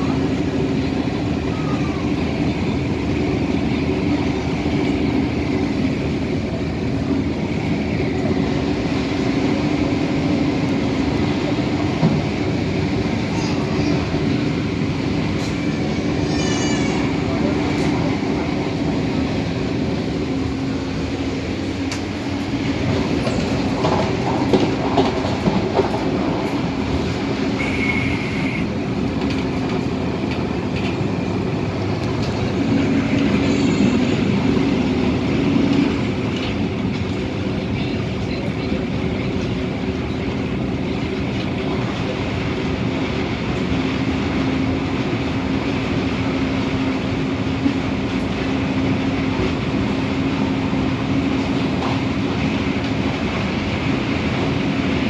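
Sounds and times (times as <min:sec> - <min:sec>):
wheels rolling on rail: 0:00.0 - 0:55.0.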